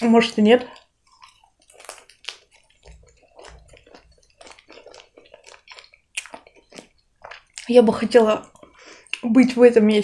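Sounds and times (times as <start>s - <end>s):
chewing with wet mouth clicks: 0.6s - 9.3s.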